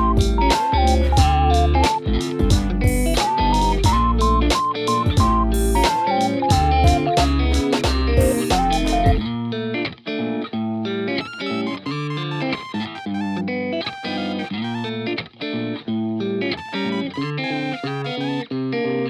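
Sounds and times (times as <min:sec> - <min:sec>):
guitar background music: 0:00.0 - 0:19.0.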